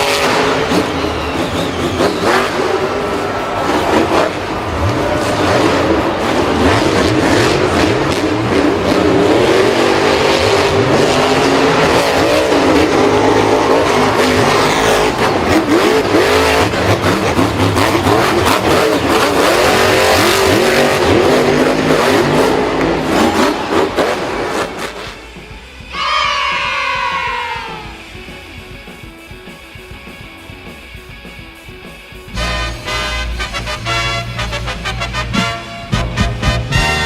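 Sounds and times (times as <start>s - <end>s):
racing engines revving: 0.0s - 37.0s.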